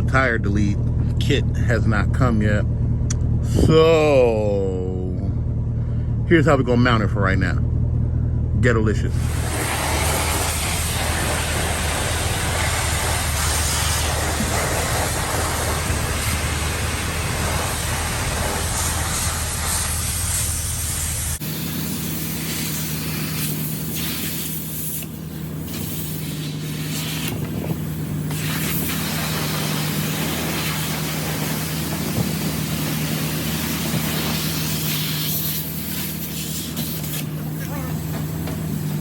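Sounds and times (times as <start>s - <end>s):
pickup truck engine hum: 0.0s - 39.0s
road and wind noise: 0.0s - 39.0s
steady hissing with low rumble: 0.0s - 39.0s.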